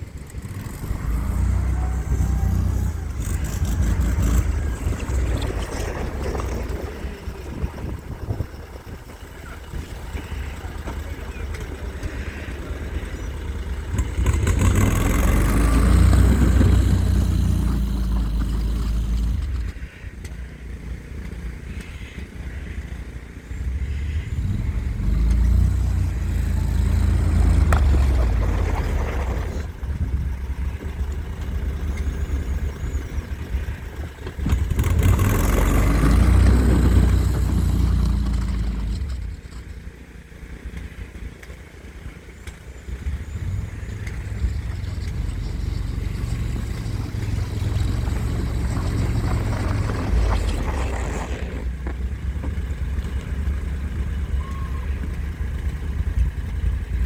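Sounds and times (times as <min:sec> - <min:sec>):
vehicle engine revving: 0:00.0 - 0:20.0, 0:20.6 - 0:57.0.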